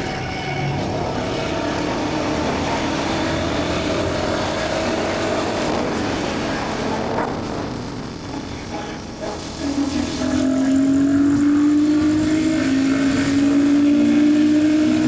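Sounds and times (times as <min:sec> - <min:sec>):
motorcycle engine running: 0:00.0 - 0:15.0
road noise rushing: 0:00.0 - 0:15.0.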